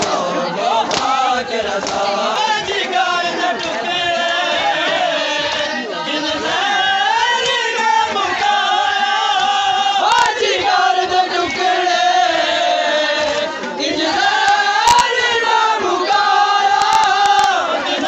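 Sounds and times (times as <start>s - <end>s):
group of men chanting: 0.0s - 18.0s.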